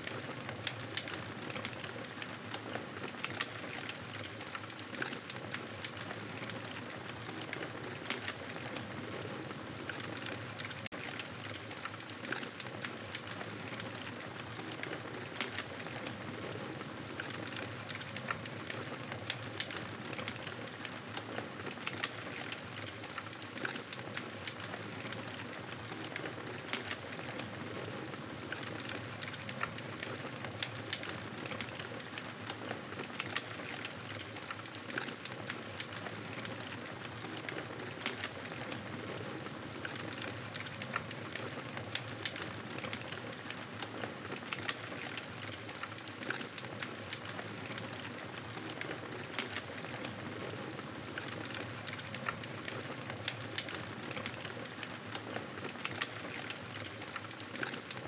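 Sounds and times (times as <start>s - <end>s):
campfire crackling: 9.7s - 58.0s.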